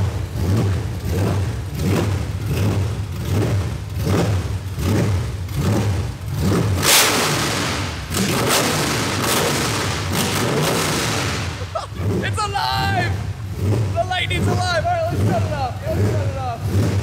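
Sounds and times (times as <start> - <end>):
loud engine pulsing: 0.0 - 17.0.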